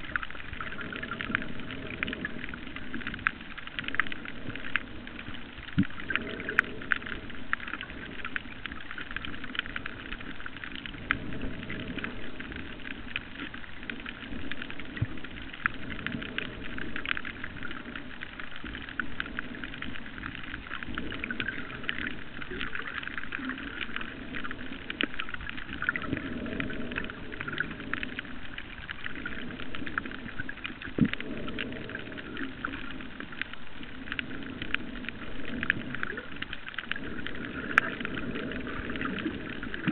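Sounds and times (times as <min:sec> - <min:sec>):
low underwater rushing: 0:00.0 - 0:39.9.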